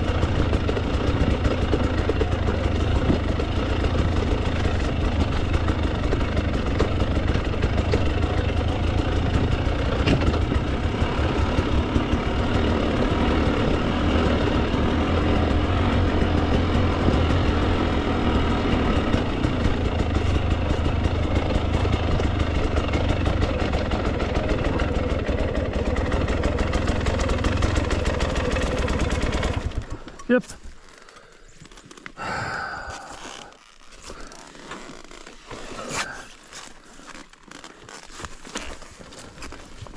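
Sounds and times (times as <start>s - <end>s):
dirt bike engine at low revs: 0.0s - 31.2s, 32.1s - 39.9s.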